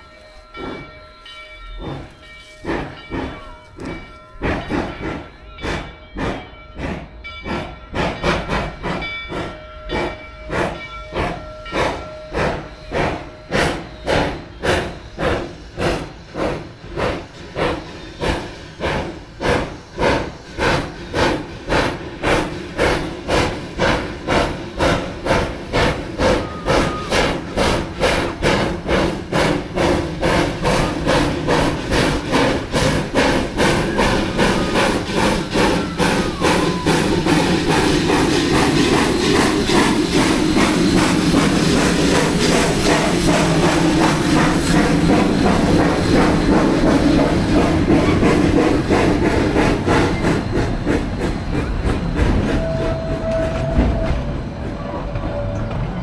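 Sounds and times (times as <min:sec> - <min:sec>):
deep rumble of locomotive: 0:00.0 - 0:56.0
steam locomotive chuffing: 0:00.0 - 0:56.0.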